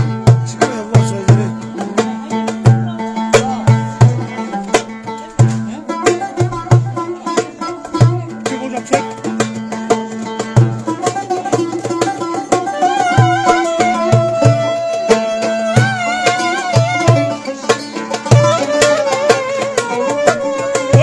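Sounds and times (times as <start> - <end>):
banjo plucking a tune: 0.0 - 21.0
hand drum rhythm: 0.0 - 21.0.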